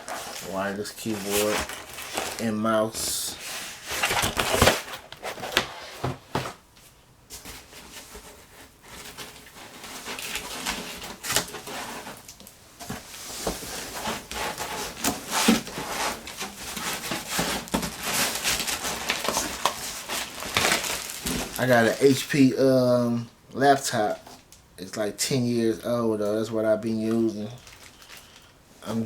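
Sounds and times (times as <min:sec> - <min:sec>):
packaging crinkling and rustling: 0:00.0 - 0:06.6, 0:07.4 - 0:22.5, 0:27.0 - 0:29.0.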